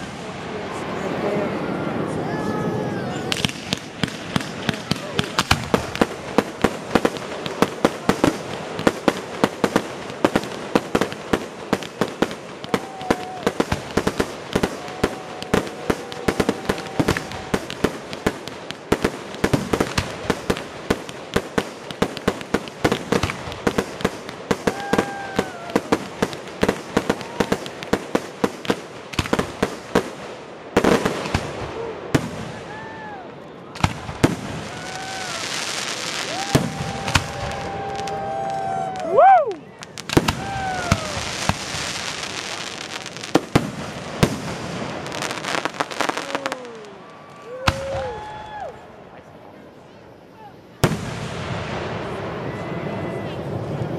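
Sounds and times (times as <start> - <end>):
loud firework blast: 0.0 - 48.7, 50.8 - 53.9
fireworks bangs and crackling: 0.0 - 49.1, 50.8 - 53.9.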